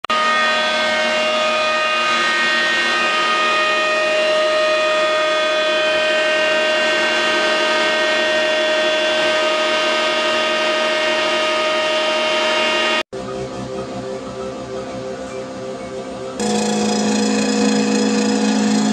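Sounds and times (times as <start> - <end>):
motor whining steadily: 0.2 - 18.9.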